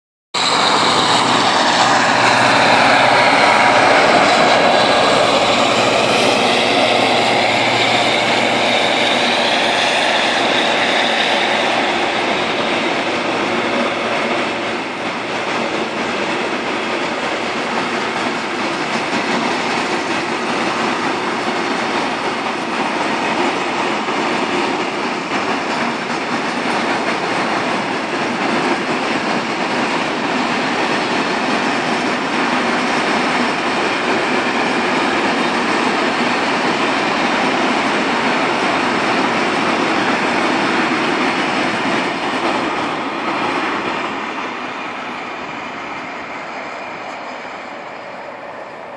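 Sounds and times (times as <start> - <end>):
freight train rolling past: 0.4 - 48.9
wheels rattling on rail: 0.4 - 48.9.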